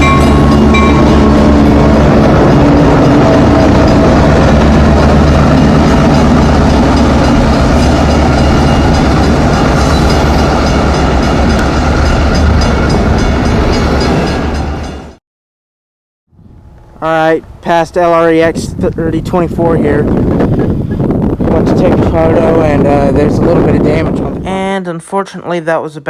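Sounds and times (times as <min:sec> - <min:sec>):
diesel engine drone: 0:00.0 - 0:13.4, 0:16.4 - 0:24.5
train rumbling past: 0:00.0 - 0:15.2, 0:16.4 - 0:24.6.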